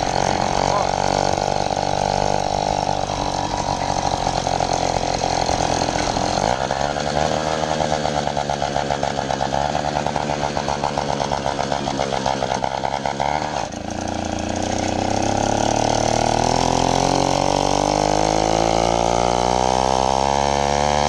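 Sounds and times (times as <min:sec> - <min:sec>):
two-stroke engine buzzing: 0:00.0 - 0:21.0.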